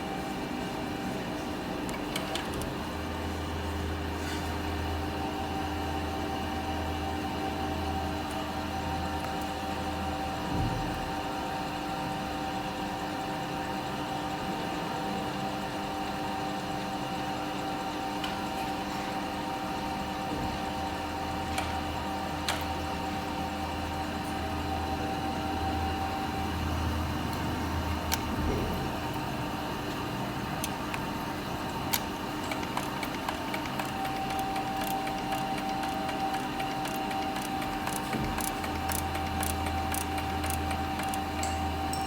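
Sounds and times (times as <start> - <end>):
grinder machine hum and whine: 0.0 - 42.0.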